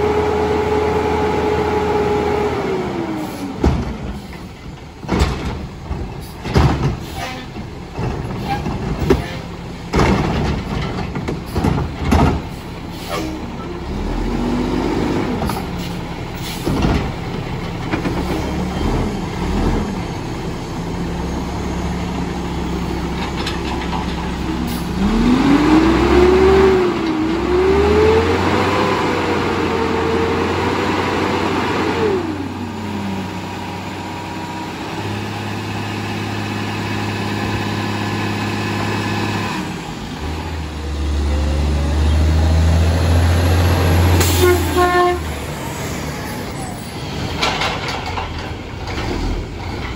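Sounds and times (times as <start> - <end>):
garbage truck diesel engine revving: 0.0 - 49.9.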